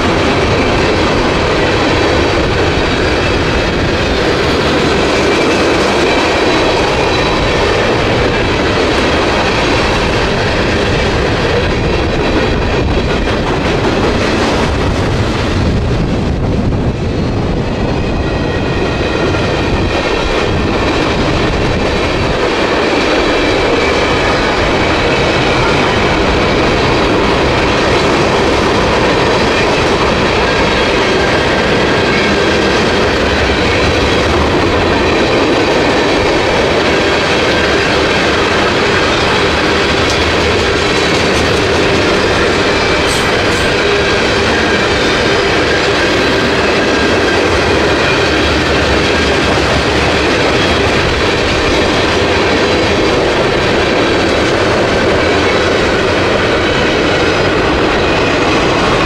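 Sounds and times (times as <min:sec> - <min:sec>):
railcars rolling over rails: 0:00.0 - 0:59.0.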